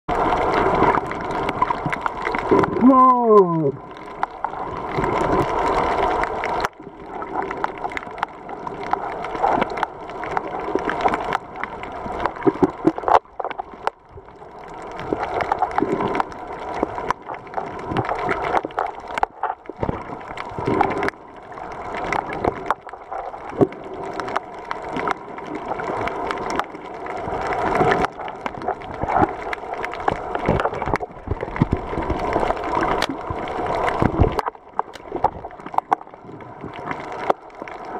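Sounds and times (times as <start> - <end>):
underwater clicks and crackles: 0.1 - 37.9
underwater sloshing and gurgling: 0.1 - 37.9.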